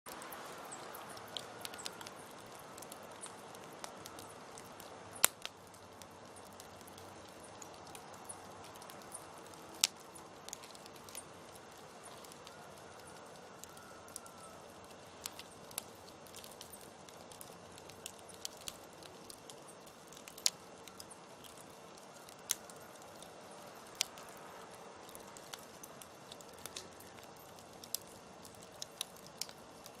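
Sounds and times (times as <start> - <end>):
campfire crackling and popping: 0.1 - 30.0
fire hissing: 0.2 - 30.0.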